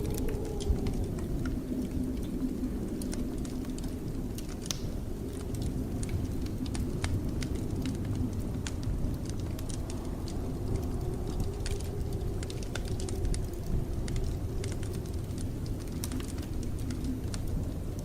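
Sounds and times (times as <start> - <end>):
blizzard wind rumble: 0.0 - 18.0
wood fire crackling: 0.0 - 18.0.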